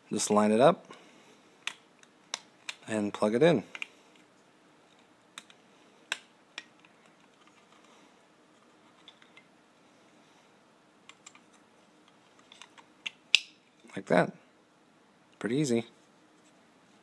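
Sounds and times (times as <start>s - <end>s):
low room hiss: 0.0s - 17.0s.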